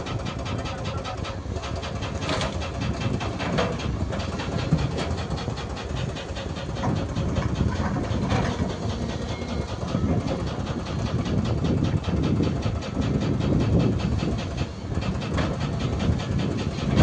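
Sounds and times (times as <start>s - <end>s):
diesel engine running: 0.0s - 17.0s
fast even clatter of clicks: 0.0s - 17.0s.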